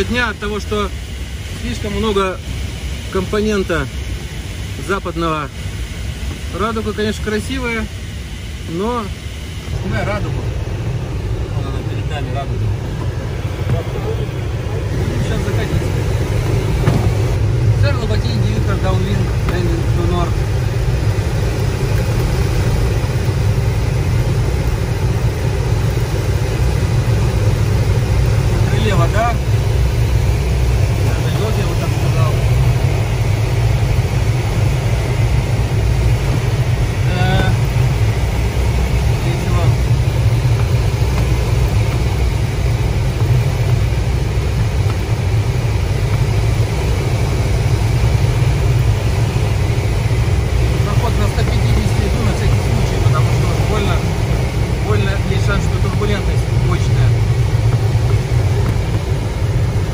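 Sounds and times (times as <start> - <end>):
air rushing over cockpit canopy: 0.0 - 59.9.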